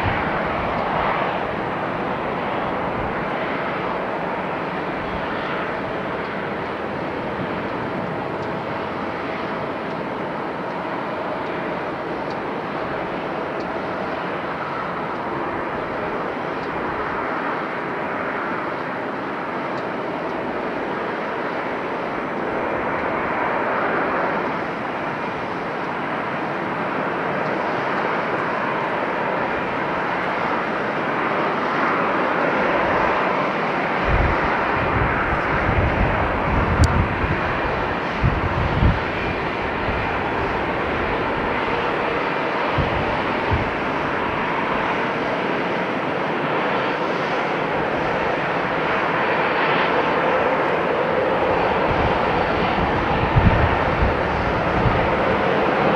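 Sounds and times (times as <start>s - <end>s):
jet engines idling: 0.0s - 55.9s.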